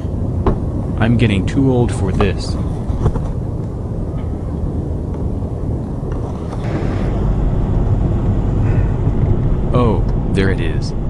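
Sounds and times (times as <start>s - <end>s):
low rumble of wind: 0.0s - 11.0s.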